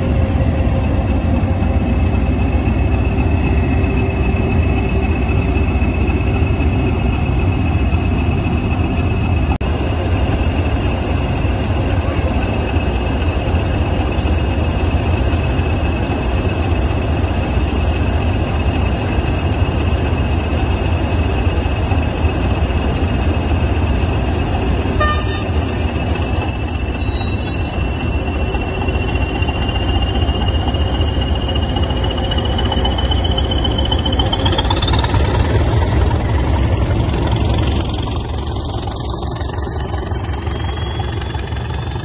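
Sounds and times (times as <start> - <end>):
diesel locomotive engine rumble: 0.0 - 42.0.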